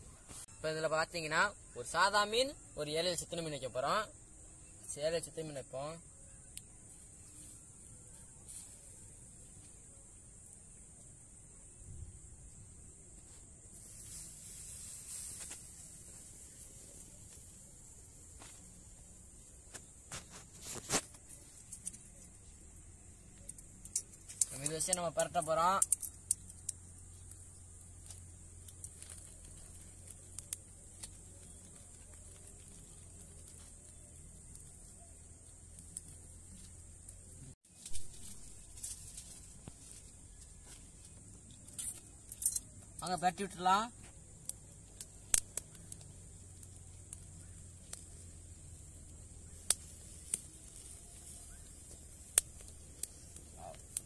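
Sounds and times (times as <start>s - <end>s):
faint high hiss: 0.0s - 54.0s
fire popping: 0.0s - 54.0s
wood fire crackling: 0.0s - 54.0s.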